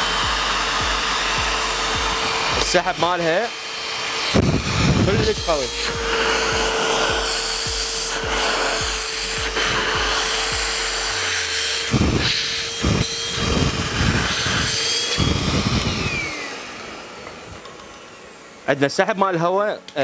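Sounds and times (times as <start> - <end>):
vacuum head knocking: 0.0 - 3.3, 4.1 - 17.9
handheld vacuum cleaner whine: 0.0 - 20.0.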